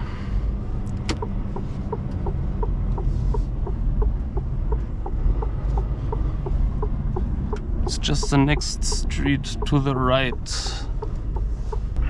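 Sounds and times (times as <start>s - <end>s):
diesel truck engine rumbling: 0.0s - 12.0s
turn signal ticking: 0.4s - 12.0s.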